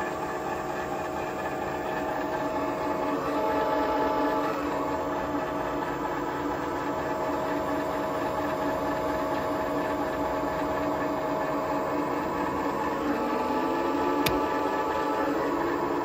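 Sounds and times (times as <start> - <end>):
milling machine humming: 0.0 - 16.0
whining gear tones: 0.4 - 16.0.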